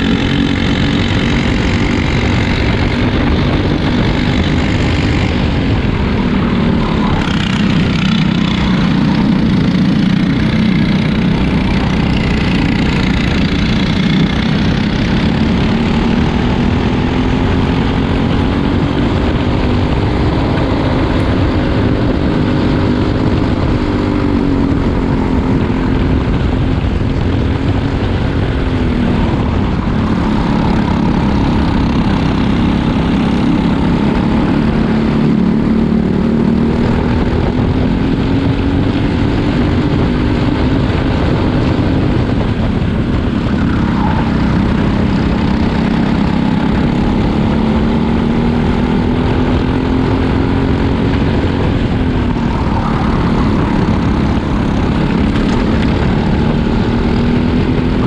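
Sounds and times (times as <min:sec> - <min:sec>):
kart engine revving: 0:00.0 - 0:58.0.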